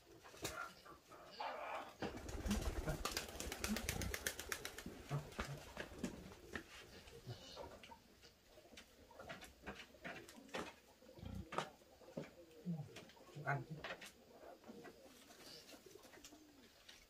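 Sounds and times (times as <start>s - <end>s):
soft low bird cooing: 0.0s - 9.3s, 10.1s - 17.0s.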